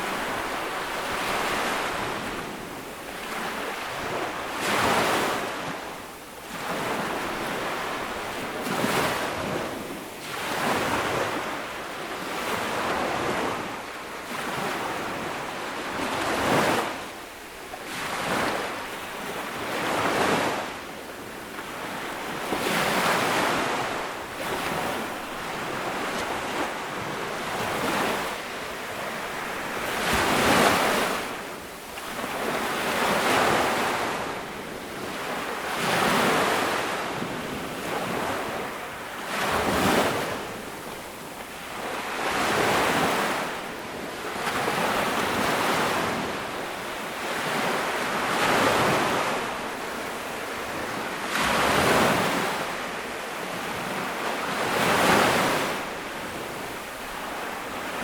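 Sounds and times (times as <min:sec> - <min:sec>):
ocean waves breaking: 0:00.0 - 0:17.1, 0:17.8 - 0:58.0.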